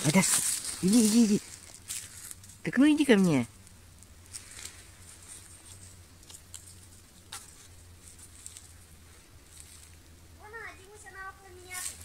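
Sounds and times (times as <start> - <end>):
footsteps on snow and leaves: 0.0 - 3.4, 4.0 - 12.0.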